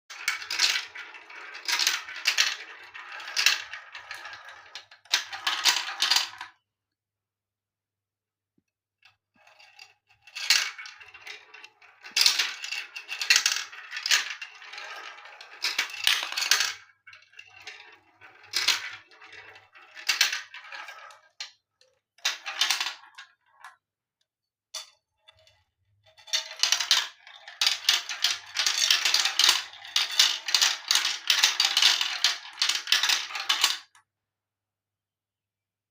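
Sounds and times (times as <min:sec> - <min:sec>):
marbles rolling and clattering: 0:00.1 - 0:06.6, 0:09.4 - 0:23.8, 0:24.8 - 0:34.0.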